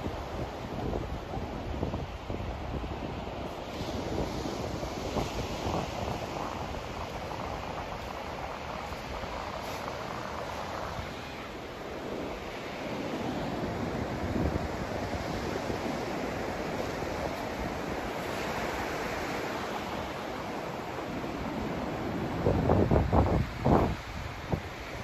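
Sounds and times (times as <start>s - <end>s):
continuous rushing noise: 0.0s - 25.0s.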